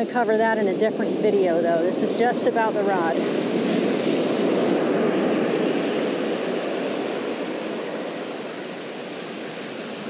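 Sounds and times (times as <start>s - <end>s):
ocean surf breaking: 0.0s - 10.0s
wind on microphone: 0.0s - 10.0s.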